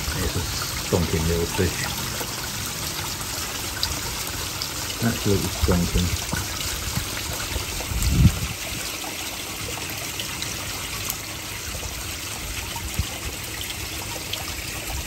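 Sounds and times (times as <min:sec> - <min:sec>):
water splashing into pond: 0:00.0 - 0:15.0.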